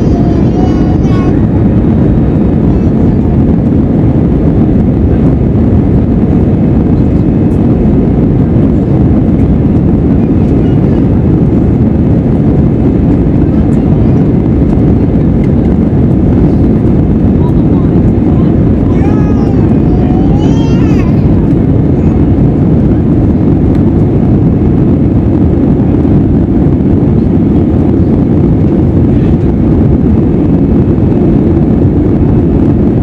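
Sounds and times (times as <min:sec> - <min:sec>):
jet engine rumble in cabin: 0:00.0 - 0:33.0
rushing air: 0:00.0 - 0:33.0.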